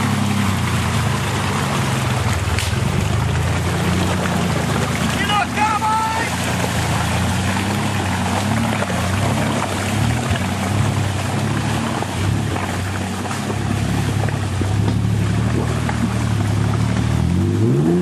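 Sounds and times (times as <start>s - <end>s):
truck engine revving: 0.0s - 18.0s
tyres churning mud and water: 0.0s - 18.0s.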